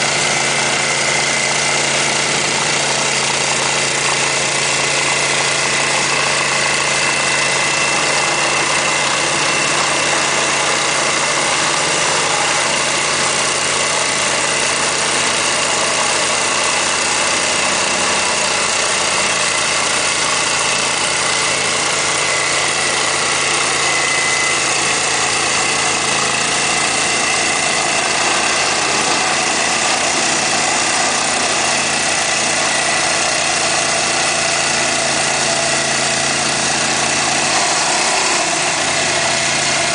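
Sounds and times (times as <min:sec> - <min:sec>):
digging machine engine running: 0:00.0 - 0:39.9.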